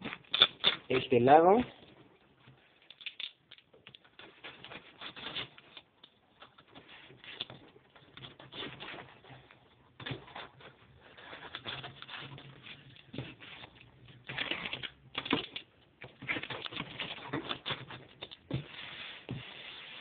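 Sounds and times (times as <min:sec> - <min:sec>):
packing tape ripping off cardboard: 0:02.8 - 0:09.4, 0:10.0 - 0:20.0.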